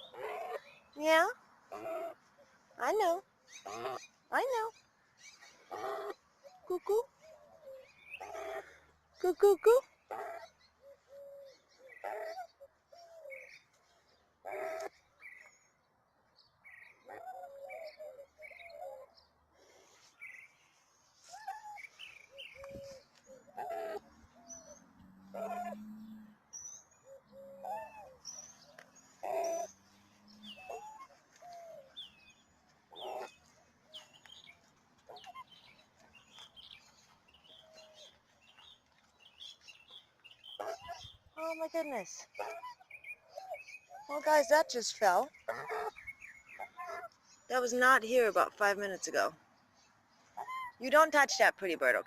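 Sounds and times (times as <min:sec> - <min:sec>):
soft low bird calls: 0:00.0 - 0:51.4
songbirds chirping: 0:00.0 - 0:52.0.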